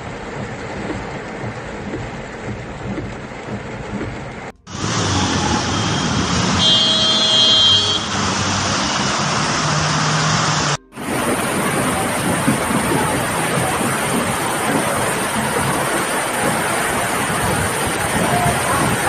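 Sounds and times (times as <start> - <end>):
floodwater rushing: 0.0 - 19.0
rain falling: 0.0 - 19.0.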